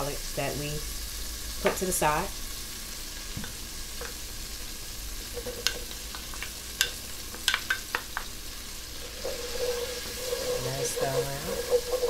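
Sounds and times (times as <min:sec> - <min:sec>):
garlic sizzling in butter: 0:00.0 - 0:12.0.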